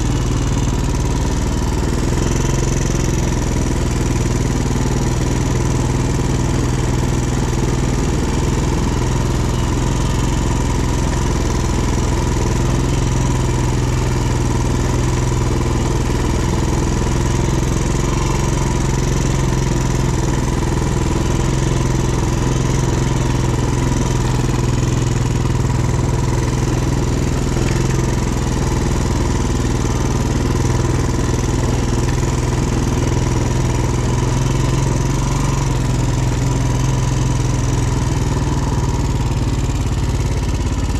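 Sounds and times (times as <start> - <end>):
quad engine running steadily: 0.0 - 40.9.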